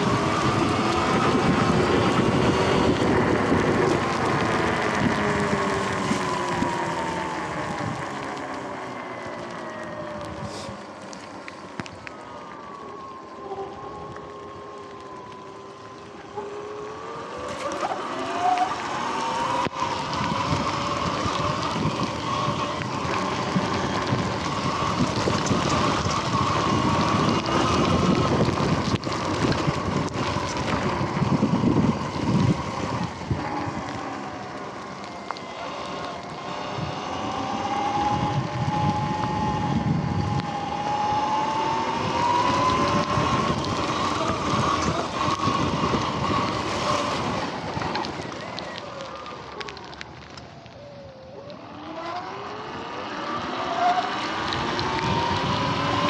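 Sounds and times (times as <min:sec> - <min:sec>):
wind noise on microphone: 0:00.0 - 0:08.8, 0:09.9 - 0:11.0, 0:17.1 - 0:53.4, 0:54.0 - 0:56.0
electric motorbike motor whining: 0:00.0 - 0:56.0
tyres rumbling on rough ground: 0:00.0 - 0:56.0.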